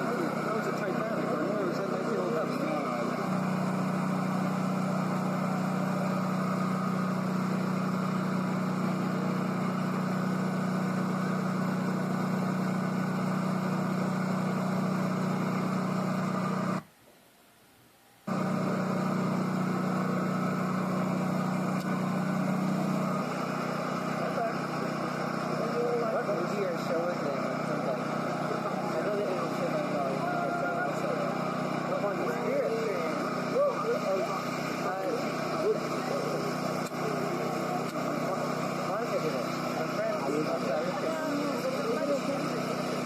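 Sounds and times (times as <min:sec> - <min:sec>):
electric streetcar humming: 0:00.0 - 0:16.8, 0:18.3 - 0:43.0.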